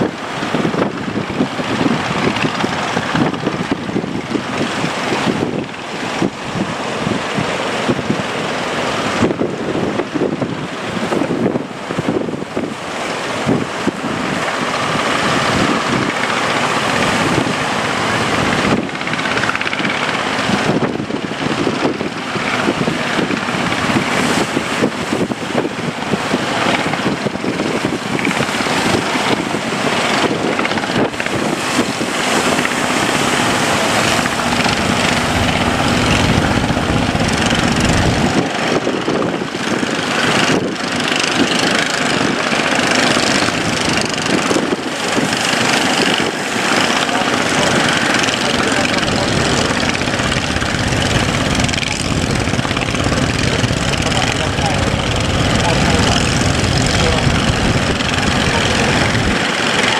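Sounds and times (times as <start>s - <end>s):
boat engine running: 0.0s - 59.9s
water rushing: 0.0s - 59.9s
wind on microphone: 0.0s - 59.9s.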